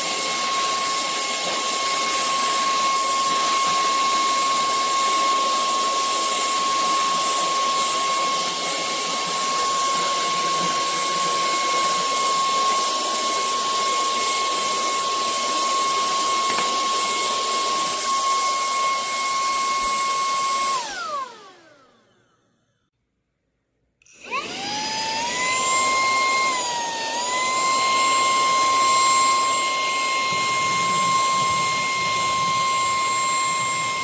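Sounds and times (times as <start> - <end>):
handheld vacuum motor whine: 0.0 - 22.9, 24.0 - 34.0.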